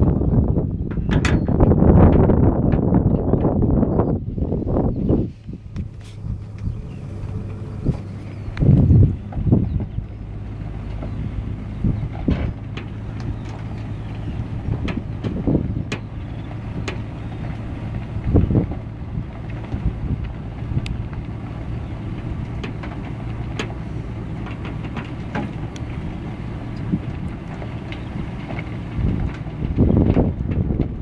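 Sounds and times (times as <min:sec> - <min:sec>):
vehicle road noise: 0:00.0 - 0:31.0
sharp clicks and rattles: 0:00.9 - 0:03.6, 0:05.4 - 0:31.0
loud bumps: 0:04.7 - 0:31.0.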